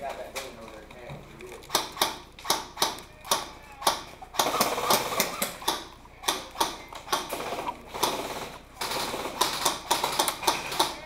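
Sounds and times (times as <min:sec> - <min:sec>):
airsoft gun shots: 0:01.7 - 0:11.0.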